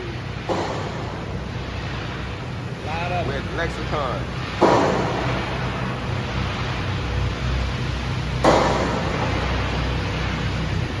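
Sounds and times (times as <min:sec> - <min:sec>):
low hum: 0:00.0 - 0:11.0
welding arc rushing: 0:00.0 - 0:11.0.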